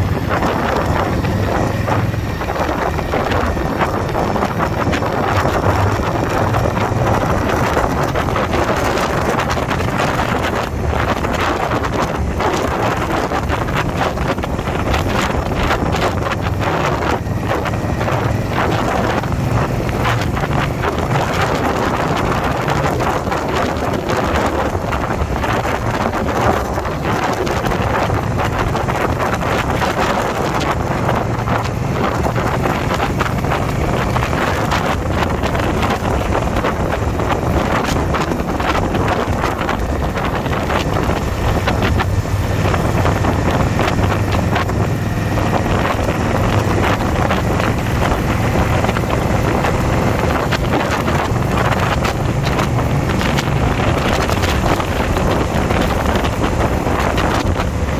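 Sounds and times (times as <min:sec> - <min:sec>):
motorcycle engine drone: 0:00.0 - 0:57.9
wind rushing over microphone: 0:00.0 - 0:57.9.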